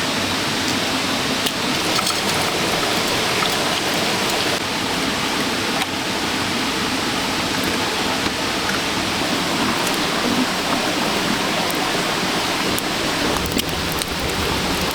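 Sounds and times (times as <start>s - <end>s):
rain falling: 0.1s - 14.9s.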